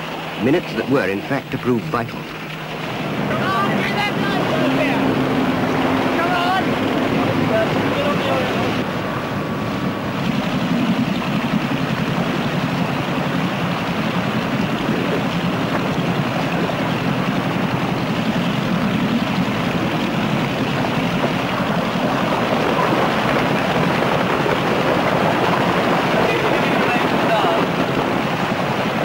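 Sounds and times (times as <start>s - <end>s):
outboard motor running: 0.0s - 29.0s.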